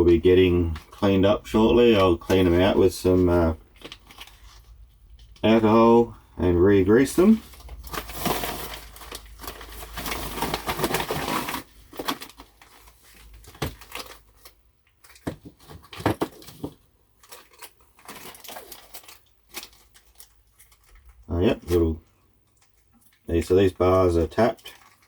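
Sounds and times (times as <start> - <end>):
plastic packaging crinkling: 0.0 - 5.8, 6.9 - 25.0.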